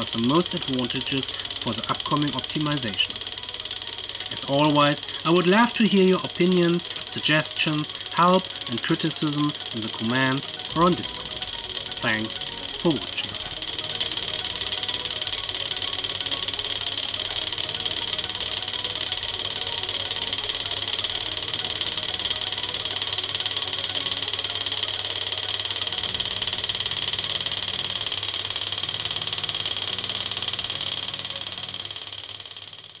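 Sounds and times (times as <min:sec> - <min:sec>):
high-pitched tones: 0:00.0 - 0:27.2.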